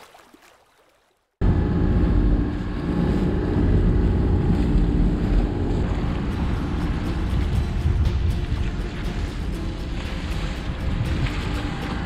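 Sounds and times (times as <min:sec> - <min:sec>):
water rushing past hulls: 0:00.0 - 0:12.0
steady low drone: 0:01.4 - 0:12.0
wind buffeting microphone: 0:01.4 - 0:12.0.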